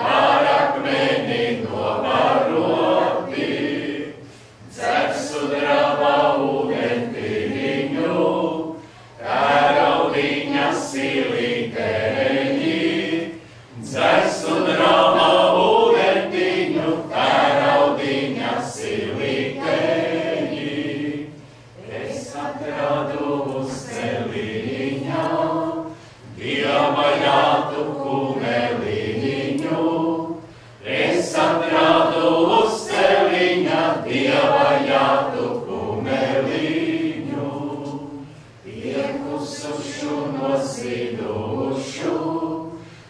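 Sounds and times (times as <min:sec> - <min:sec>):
group singing unaccompanied: 0:00.0 - 0:43.0.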